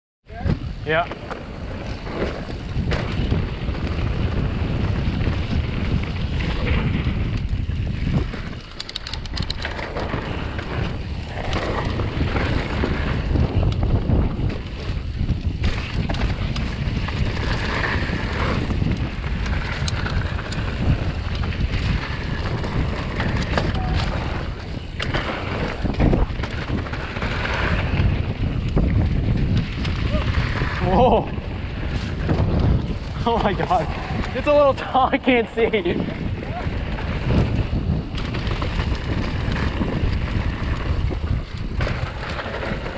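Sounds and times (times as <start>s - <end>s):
bike rattle: 0.3s - 42.9s
wind buffeting microphone: 0.3s - 42.9s
sharp clicks from bike: 0.9s - 31.2s, 31.8s - 34.6s, 36.5s - 42.9s.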